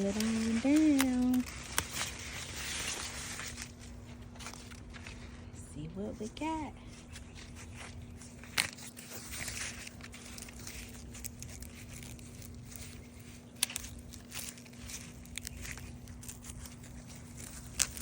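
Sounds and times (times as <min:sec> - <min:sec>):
corn husks crackling and tearing: 0:00.0 - 0:18.0.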